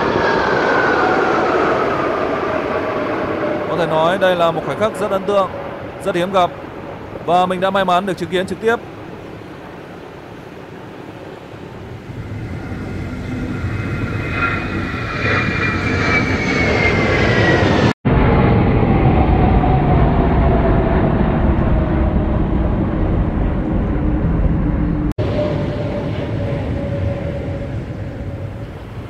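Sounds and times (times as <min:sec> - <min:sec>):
jet whine falling in pitch: 0:00.0 - 0:08.8, 0:11.8 - 0:29.0
jet fighters roaring past: 0:00.0 - 0:29.0.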